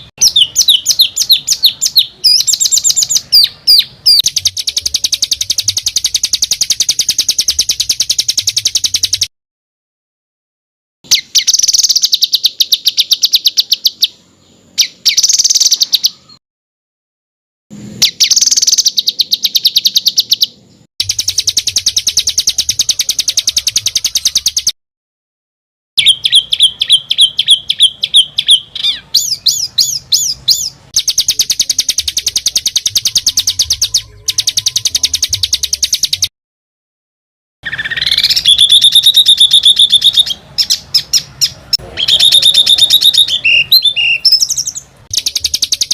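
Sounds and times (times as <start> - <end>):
songbird trills: 0.0 - 9.3, 11.1 - 16.4, 18.0 - 24.7, 26.0 - 36.3, 37.6 - 45.9.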